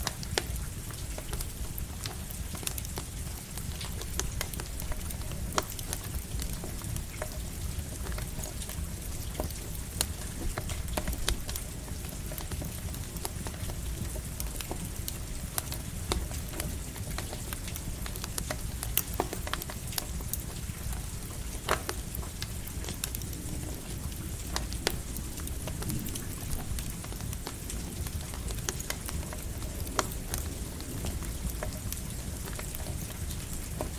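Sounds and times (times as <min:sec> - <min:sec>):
campfire crackling and popping: 0:00.0 - 0:33.9
light rain hissing: 0:00.0 - 0:33.9.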